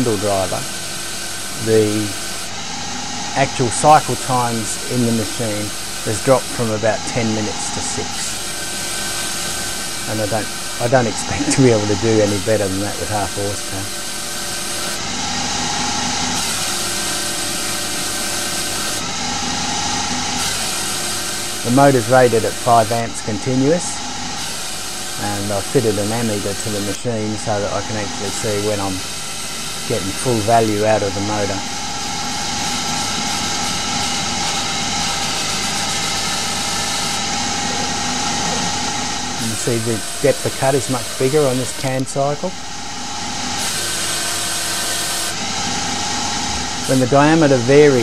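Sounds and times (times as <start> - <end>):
lathe cutting metal: 0.0 - 48.0
spindle motor whine: 0.0 - 48.0.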